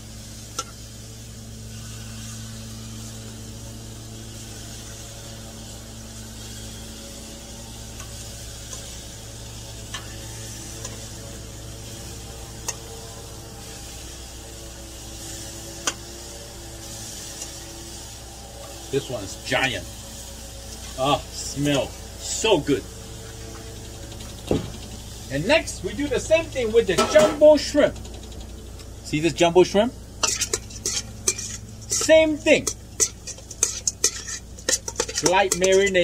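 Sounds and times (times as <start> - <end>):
scallops sizzling on grill: 0.0 - 36.0.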